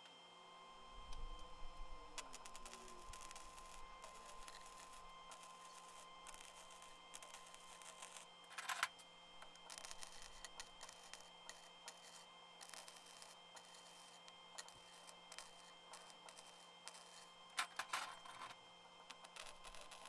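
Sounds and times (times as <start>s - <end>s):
welding arc crackling sizzle: 1.0s - 20.0s.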